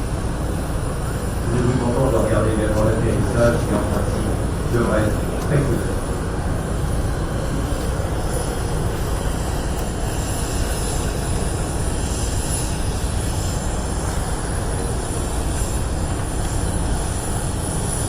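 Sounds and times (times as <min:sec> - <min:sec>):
aircraft engine deep rumble: 0:00.0 - 0:18.0.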